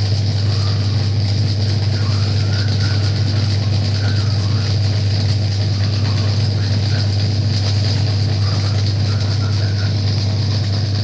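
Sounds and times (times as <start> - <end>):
compressor humming and chattering: 0.0 - 11.0.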